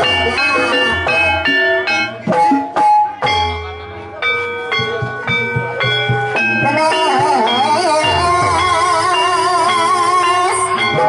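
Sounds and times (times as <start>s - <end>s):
low drum beats: 0.0s - 11.0s
struck bell-like pitched notes: 0.0s - 11.0s
wavering melody line: 0.0s - 11.0s.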